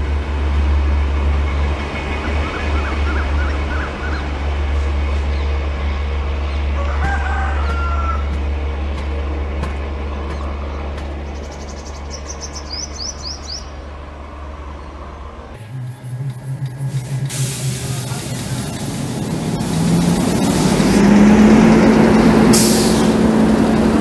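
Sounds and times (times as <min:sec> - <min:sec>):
low rumble of departing train: 0:00.0 - 0:24.0
birds chirping: 0:01.1 - 0:24.0.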